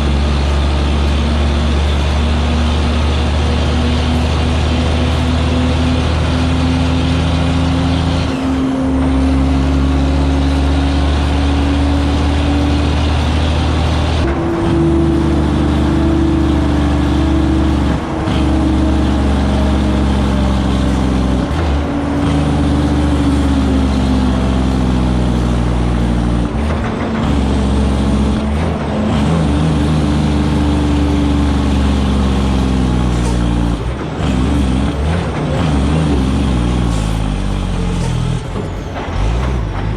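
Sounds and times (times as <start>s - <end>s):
diesel truck engine under load: 0.0s - 39.9s
gear shifts: 0.0s - 39.9s.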